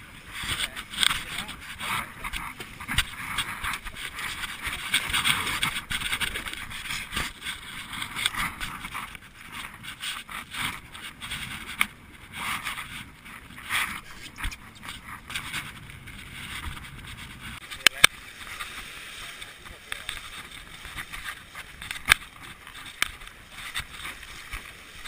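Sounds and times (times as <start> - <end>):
water splashing along boat hull: 0.0 - 25.0.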